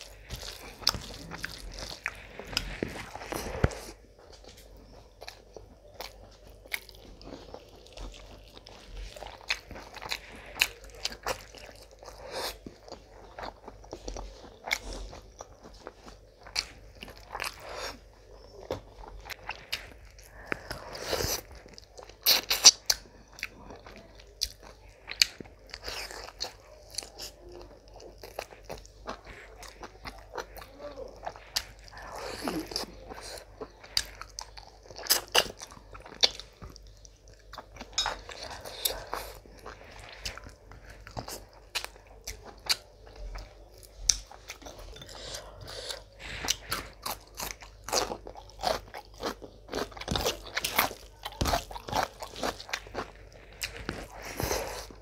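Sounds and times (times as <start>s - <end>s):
wet chewing and mouth smacking: 0.0s - 55.0s.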